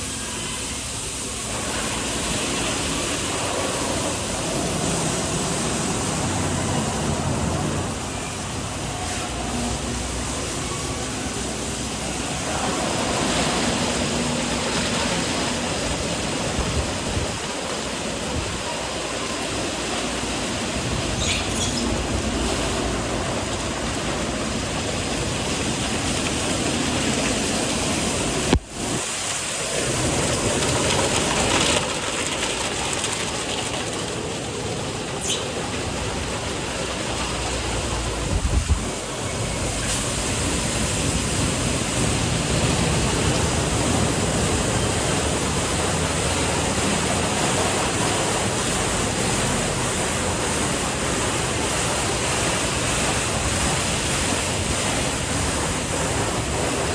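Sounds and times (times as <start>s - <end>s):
wash equipment working: 0.0s - 56.9s
water spraying onto car: 0.0s - 56.9s.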